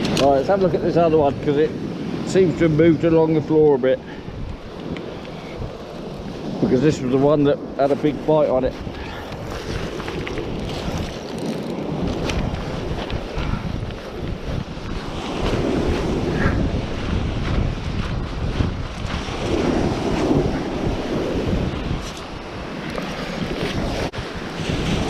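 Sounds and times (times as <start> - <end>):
strong wind buffeting microphone: 0.0 - 25.0
waves breaking on shore: 0.0 - 25.0.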